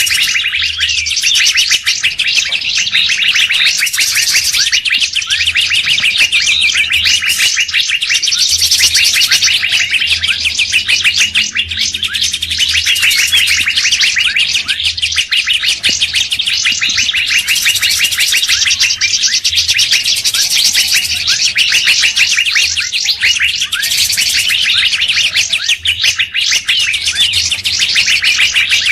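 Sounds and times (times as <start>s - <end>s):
songbirds chirping and twittering: 0.0s - 28.9s.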